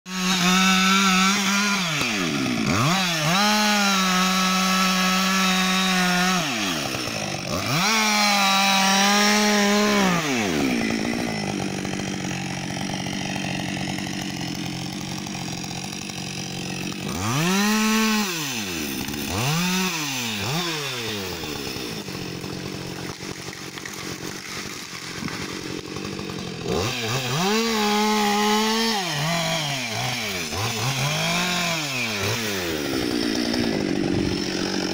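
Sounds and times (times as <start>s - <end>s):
chainsaw revving and idling: 0.1s - 34.9s.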